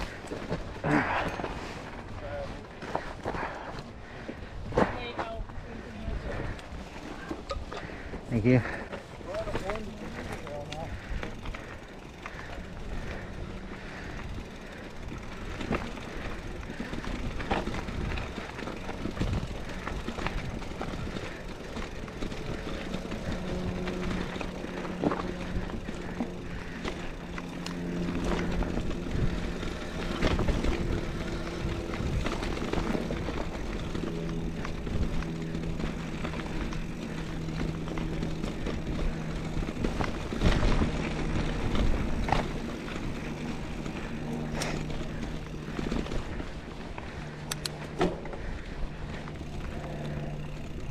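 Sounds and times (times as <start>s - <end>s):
bike knocking and rattling: 0.0s - 50.9s
bike tyres on dirt trail: 0.0s - 50.9s.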